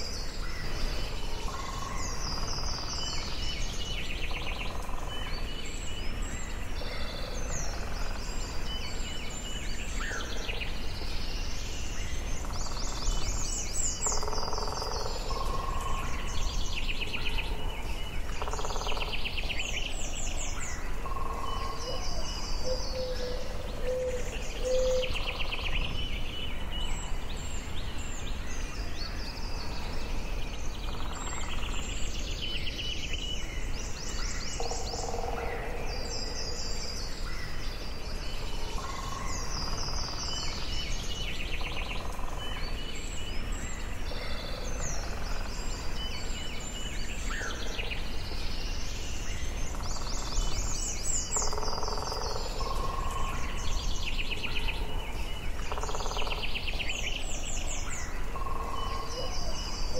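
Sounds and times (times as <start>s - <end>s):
birds singing and calling: 0.0s - 59.9s.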